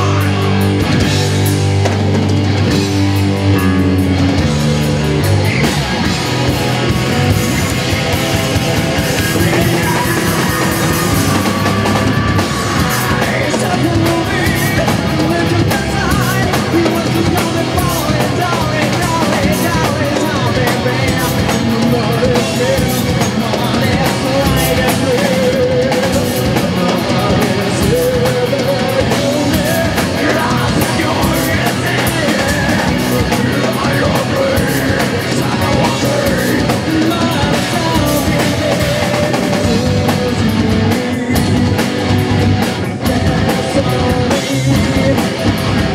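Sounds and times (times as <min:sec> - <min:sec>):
person singing: 0:00.0 - 0:01.2, 0:09.0 - 0:45.9
drum kit: 0:00.0 - 0:45.9
electric guitars: 0:00.0 - 0:45.9.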